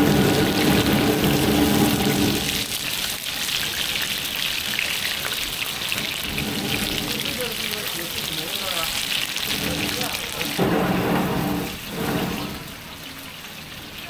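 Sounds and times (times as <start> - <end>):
buns sizzling in a pan: 0.0 - 14.0.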